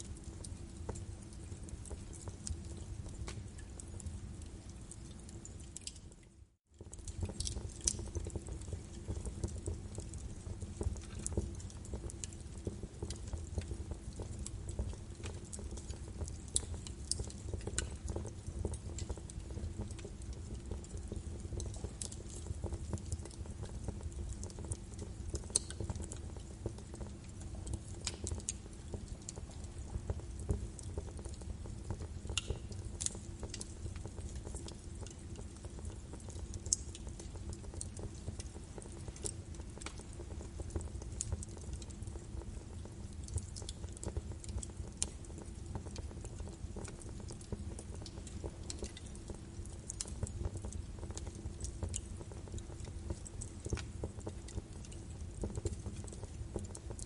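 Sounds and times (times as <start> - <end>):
logs crackling in a fireplace: 0.0 - 57.0.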